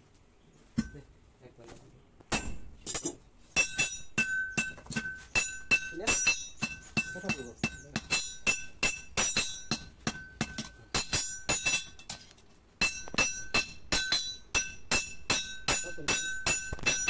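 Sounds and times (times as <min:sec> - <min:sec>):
hammer striking metal on anvil: 0:02.3 - 0:12.2, 0:12.8 - 0:17.0.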